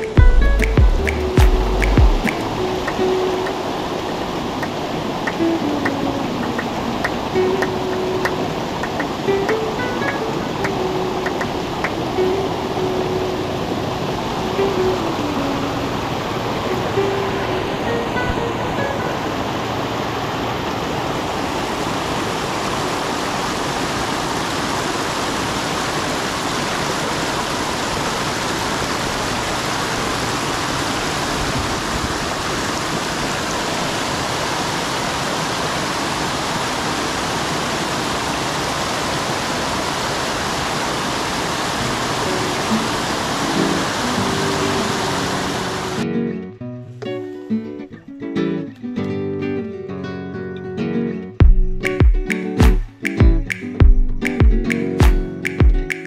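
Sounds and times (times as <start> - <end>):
creek water rushing and splashing: 0.0 - 46.1.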